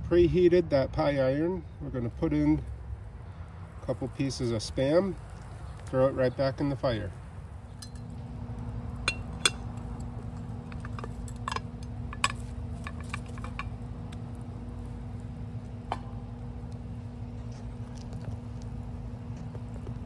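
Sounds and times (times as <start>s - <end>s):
campfire crackling: 0.0s - 20.0s
steady low hum: 0.0s - 20.0s.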